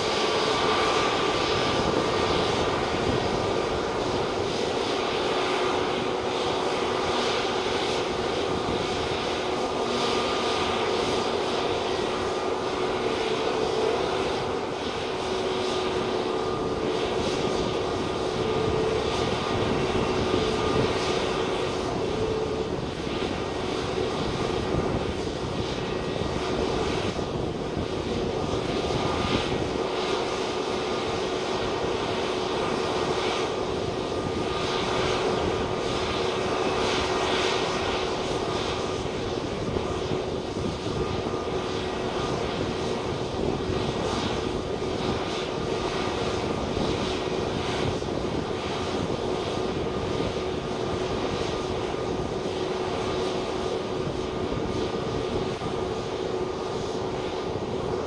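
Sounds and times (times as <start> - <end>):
jet engines humming and whining: 0.0 - 58.0.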